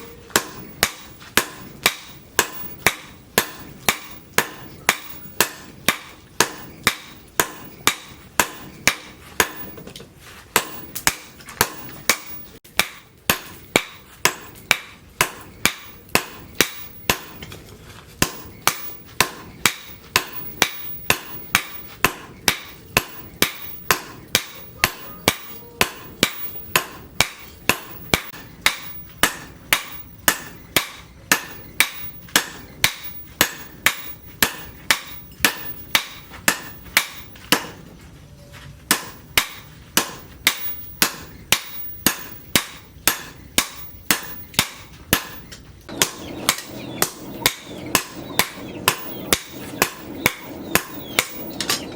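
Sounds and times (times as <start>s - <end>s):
hammer striking steel on anvil: 0.0s - 9.9s, 10.5s - 17.6s, 18.2s - 37.9s, 38.9s - 51.9s.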